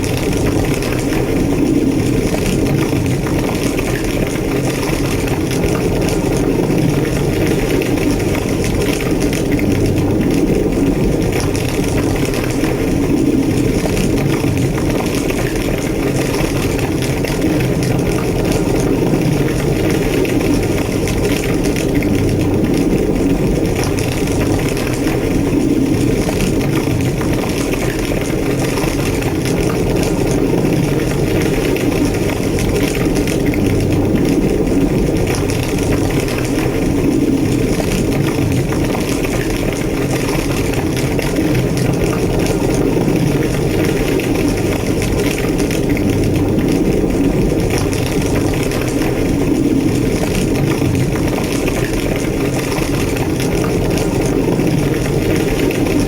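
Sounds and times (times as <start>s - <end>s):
fire roaring and crackling: 0.0s - 56.0s.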